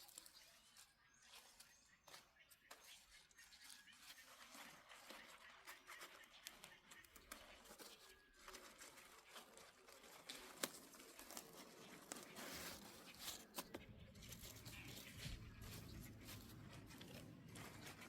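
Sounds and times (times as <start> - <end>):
faint rustling and crinkling: 0.0 - 18.0.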